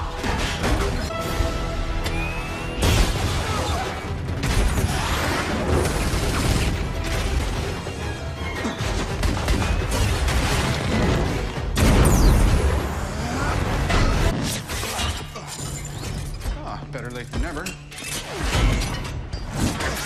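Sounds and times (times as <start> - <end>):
action film music score: 0.0 - 20.0.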